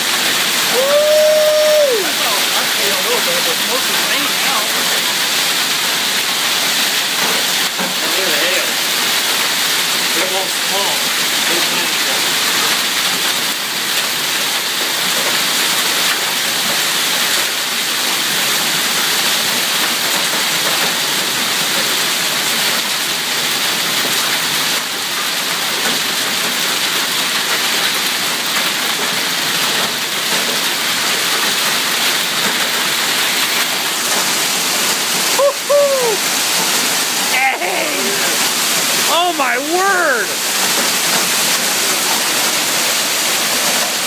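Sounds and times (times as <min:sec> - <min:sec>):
hail and rain pelting: 0:00.0 - 0:44.0.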